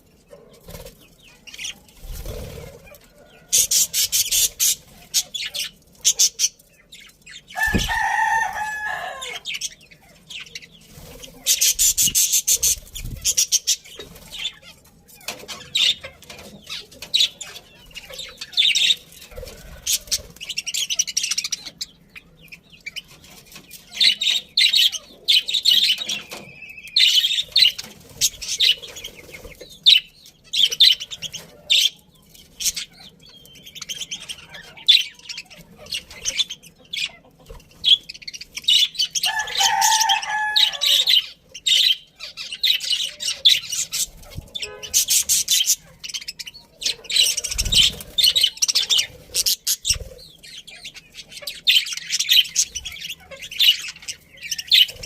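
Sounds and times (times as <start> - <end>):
budgerigars chirping: 1.0 - 55.0.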